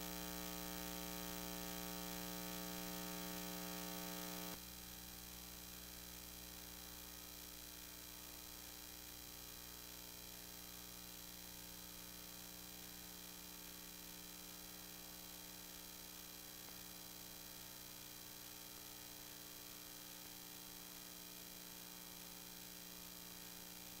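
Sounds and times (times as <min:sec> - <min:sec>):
electrical mains hum with hiss: 0:00.0 - 0:24.0.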